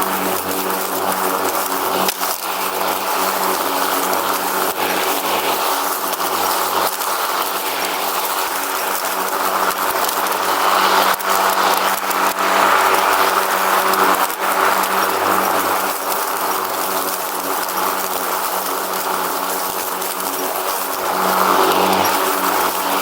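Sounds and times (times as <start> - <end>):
riding lawn mower engine: 0.0 - 23.0.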